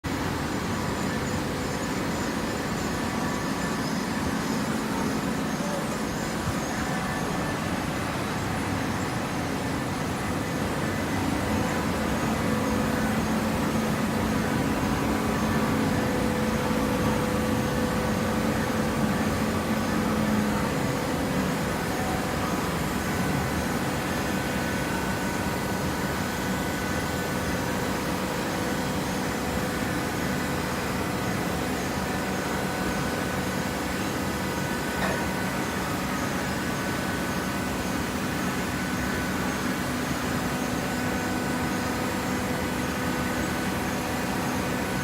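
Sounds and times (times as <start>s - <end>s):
baler machine running: 0.1s - 45.0s.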